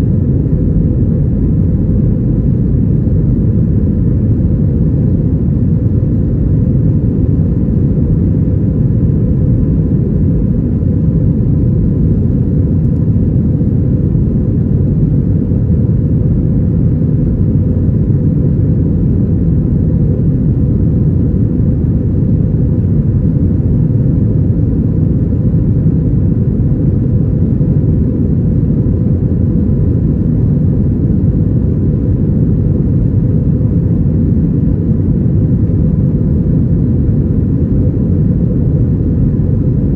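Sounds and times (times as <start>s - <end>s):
aircraft cabin engine rumble: 0.0s - 39.9s
faint steady whine: 0.0s - 39.9s.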